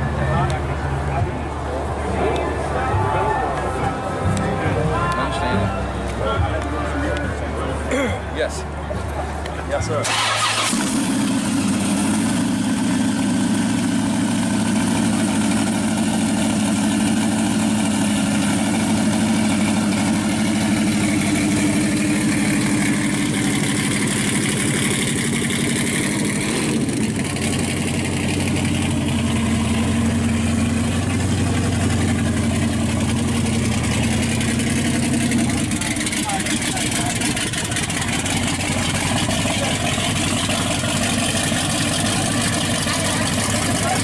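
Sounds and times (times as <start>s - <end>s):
car engine idling: 8.8s - 44.0s.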